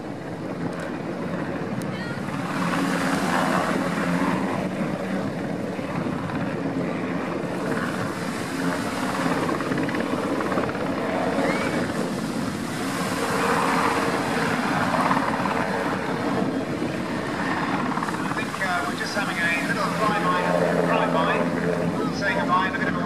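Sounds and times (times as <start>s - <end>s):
helicopter rotor and turbine: 0.0s - 23.0s.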